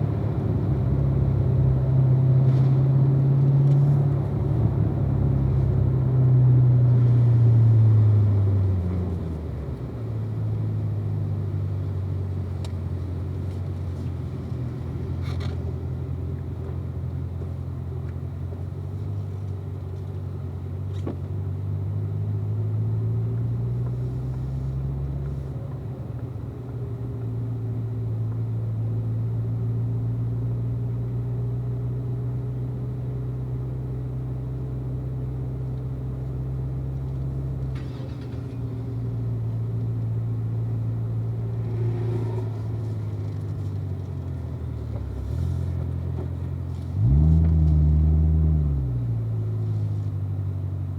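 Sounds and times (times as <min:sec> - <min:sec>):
car engine at low revs: 0:00.0 - 0:50.9.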